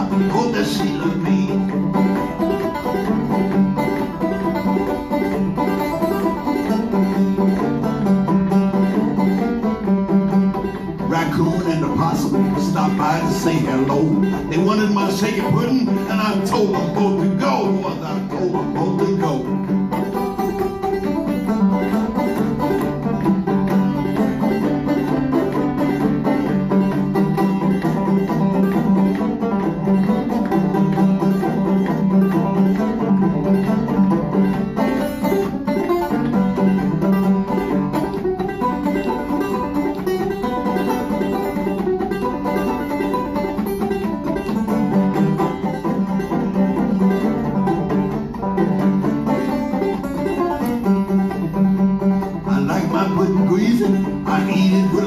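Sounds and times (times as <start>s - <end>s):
solo banjo playing: 0.0s - 55.0s.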